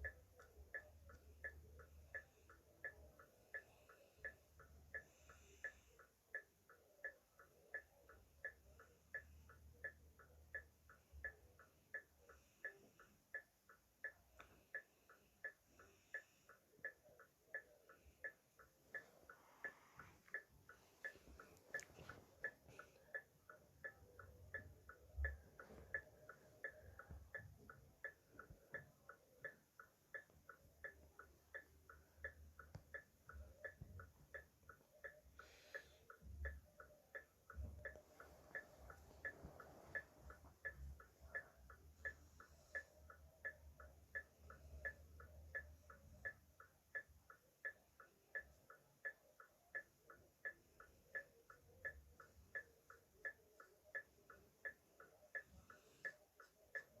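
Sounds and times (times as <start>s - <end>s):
hazard light relay ticking: 0.0s - 57.0s.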